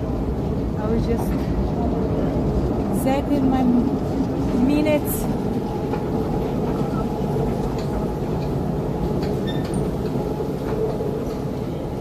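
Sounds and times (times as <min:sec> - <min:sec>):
escalator rumbling: 0:00.0 - 0:12.0.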